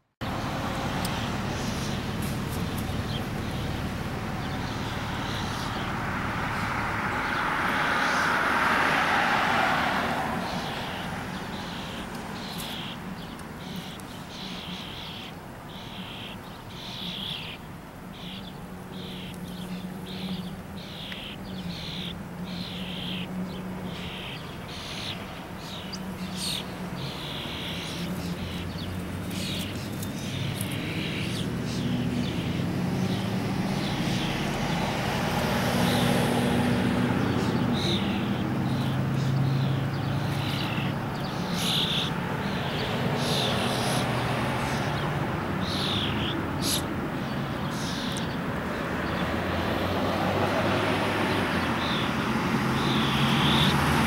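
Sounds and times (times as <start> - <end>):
fledglings begging with harsh calls: 0.2 - 35.0, 35.6 - 54.0
low engine hum: 0.2 - 54.0.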